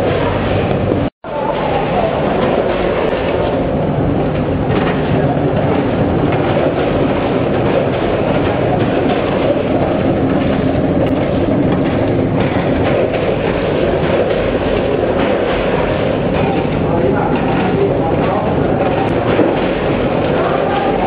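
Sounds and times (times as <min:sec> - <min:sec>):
low machine hum: 0:00.0 - 0:21.0
machine clatter: 0:00.0 - 0:21.0.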